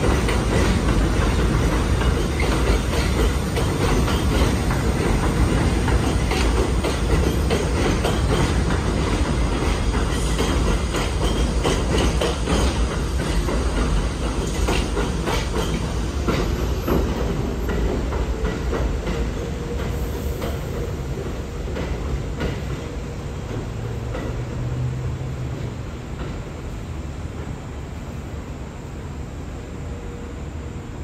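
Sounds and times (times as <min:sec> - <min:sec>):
wheels clacking over rail joints: 0:00.0 - 0:27.6
subway train rumbling: 0:00.0 - 0:31.0.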